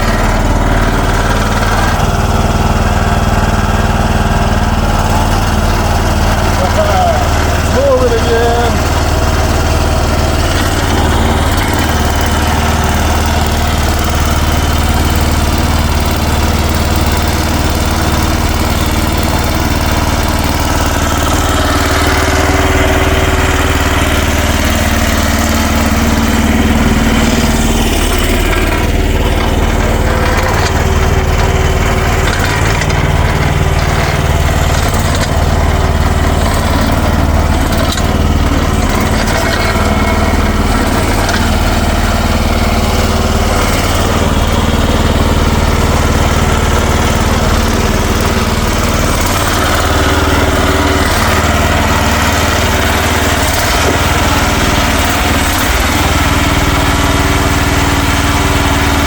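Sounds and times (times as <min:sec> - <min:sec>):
small excavator engine running: 0:00.0 - 0:59.0.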